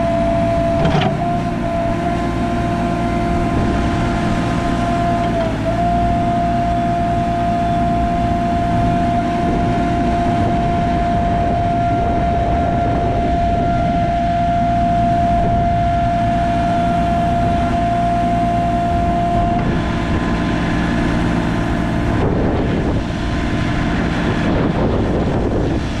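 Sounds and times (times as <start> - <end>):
diesel engine running: 0.0 - 26.0
steady high whine: 0.0 - 26.0.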